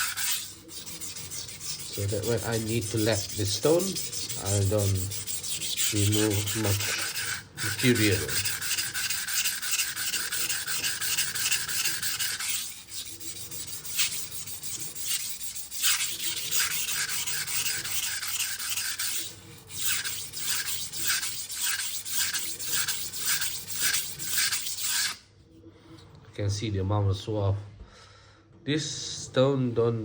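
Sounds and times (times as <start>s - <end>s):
knife scraping on sharpening stone: 0.0s - 25.2s.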